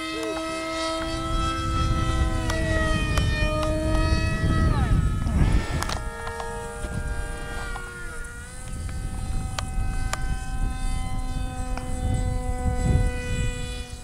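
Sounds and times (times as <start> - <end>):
rc plane motors whining: 0.0 - 14.0
wind buffeting microphone: 0.0 - 14.0.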